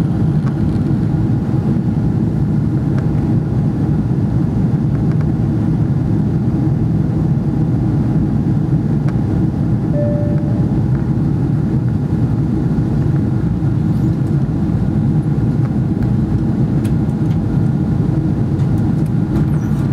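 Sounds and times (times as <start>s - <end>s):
jet engine rumble: 0.0s - 19.9s.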